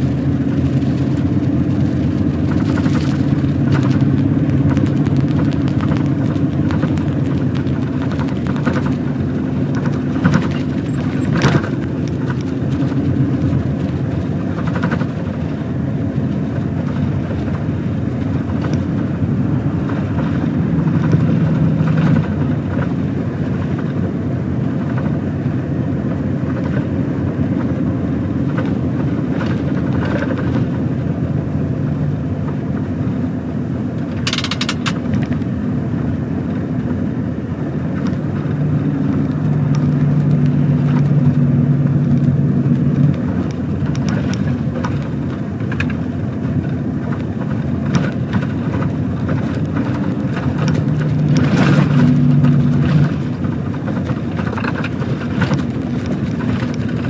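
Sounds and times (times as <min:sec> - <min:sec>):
road noise: 0:00.0 - 0:57.0
truck diesel engine driving: 0:00.0 - 0:57.0.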